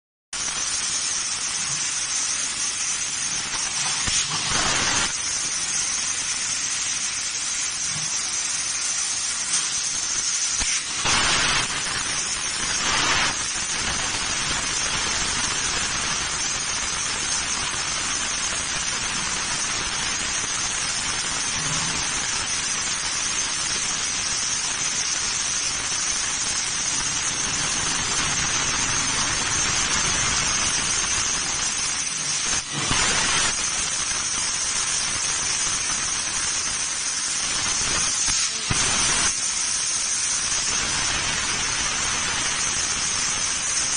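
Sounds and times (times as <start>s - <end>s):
laser cutter gas jet hiss: 0.4s - 43.9s.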